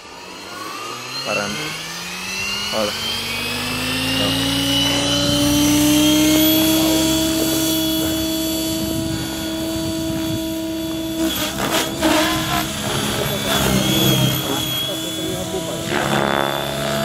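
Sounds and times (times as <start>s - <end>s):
helicopter motor and rotors whining: 0.0s - 17.0s.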